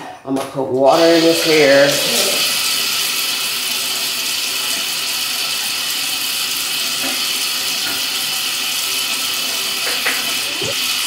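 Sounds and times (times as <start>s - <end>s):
water running from sink tap: 0.9s - 11.0s.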